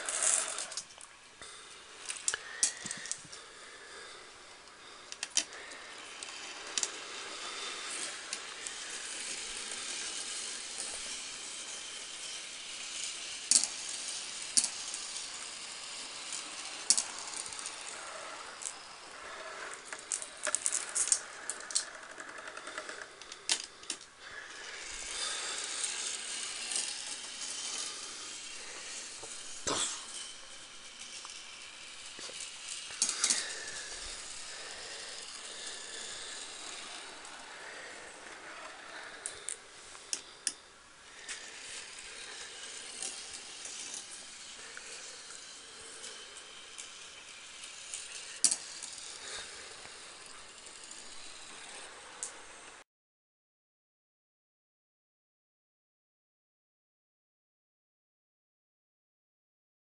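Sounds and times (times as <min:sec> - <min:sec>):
marbles rolling on plastic track: 0:00.0 - 0:52.8.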